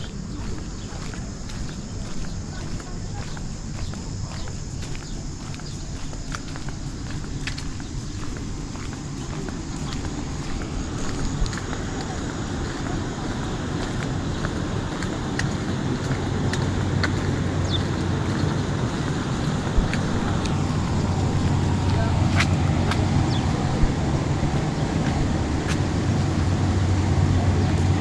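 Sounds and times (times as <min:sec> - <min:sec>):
low motor drone: 0:00.0 - 0:28.0.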